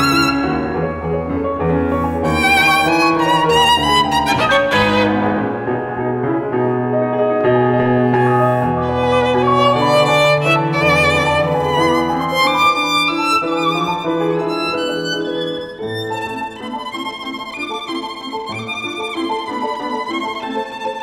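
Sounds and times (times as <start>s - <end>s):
piano accompaniment: 0.0s - 21.0s
violin melody with vibrato: 0.0s - 21.0s.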